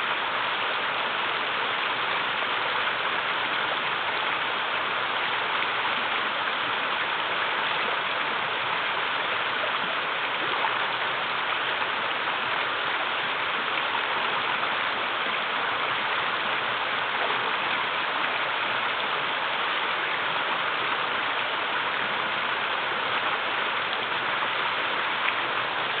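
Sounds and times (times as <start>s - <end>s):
river water rushing over cascades: 0.0s - 26.0s.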